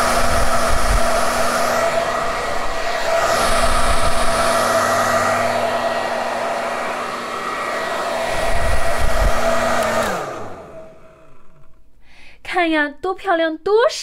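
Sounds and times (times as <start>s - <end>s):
hair dryer blowing: 0.0s - 11.8s
hair dryer motor spinning down: 0.0s - 11.8s.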